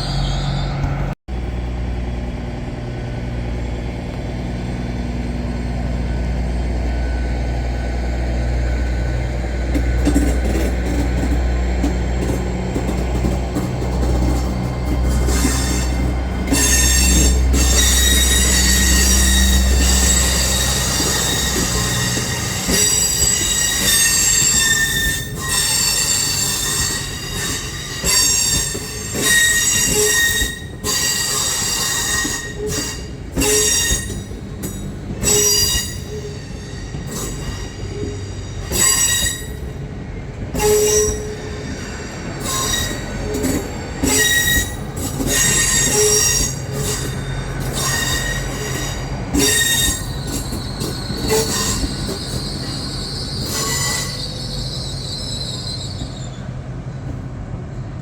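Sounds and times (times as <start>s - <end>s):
train wheels squealing: 0.0s - 1.2s, 5.1s - 39.8s, 40.5s - 56.7s.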